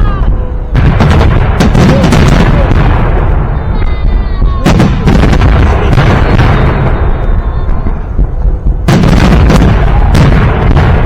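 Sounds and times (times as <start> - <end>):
fireworks booming: 0.0 - 11.0.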